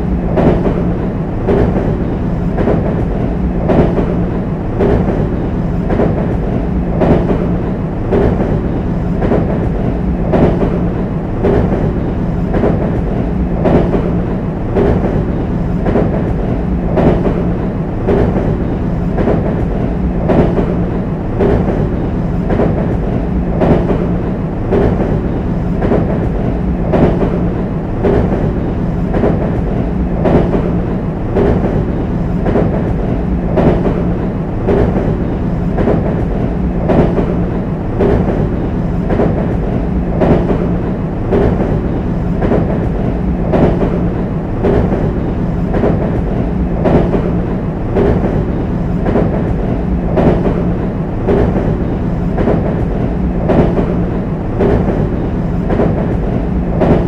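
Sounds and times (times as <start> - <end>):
electric train rumbling: 0.0 - 57.0
wheels clicking over rail joints: 0.0 - 57.0.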